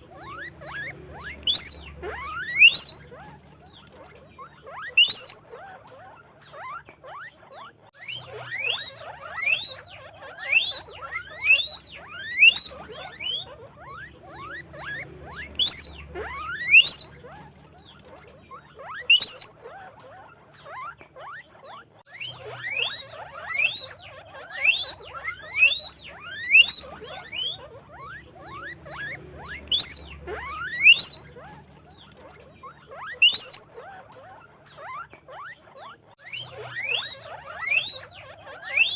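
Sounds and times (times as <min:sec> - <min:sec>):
faint squeaks and chatter: 0:00.0 - 0:38.9
guinea pigs wheeking: 0:00.0 - 0:38.9.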